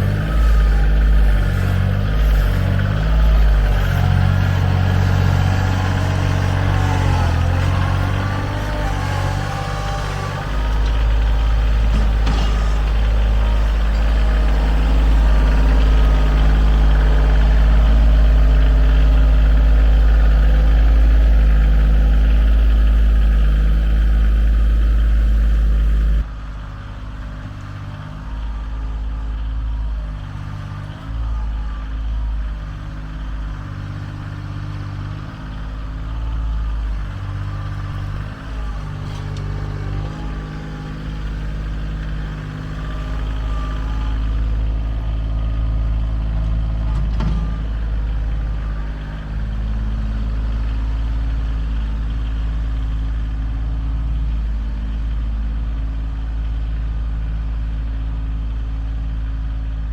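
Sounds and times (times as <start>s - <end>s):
engine rumbling: 0.0s - 59.9s.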